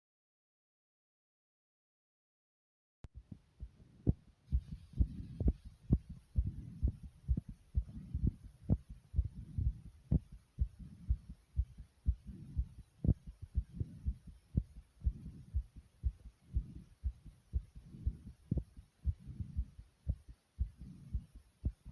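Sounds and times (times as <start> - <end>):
racing heartbeat thumps: 3.1 - 21.9.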